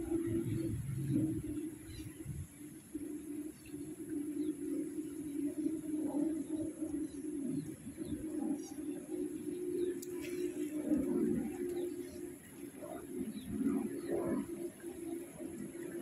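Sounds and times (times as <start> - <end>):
low cooing bird calls: 0.0 - 16.0
steady low hum: 0.0 - 16.0.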